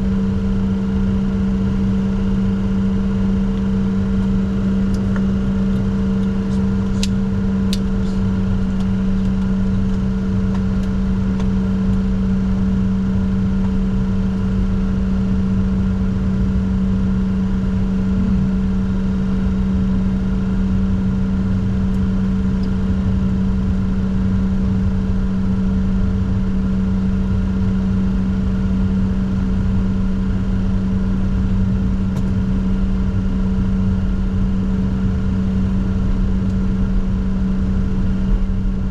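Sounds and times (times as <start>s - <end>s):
jet engine cockpit drone: 0.0s - 38.9s.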